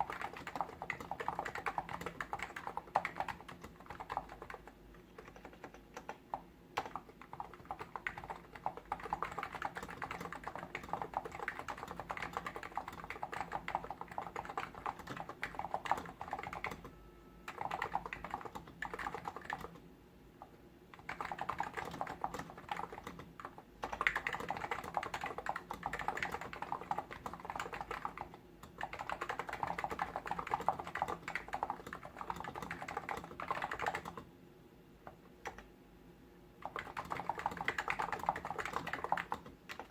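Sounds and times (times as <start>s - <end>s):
fast keyboard typing: 0.0s - 19.8s, 20.4s - 34.3s, 35.1s - 35.7s, 36.6s - 39.9s.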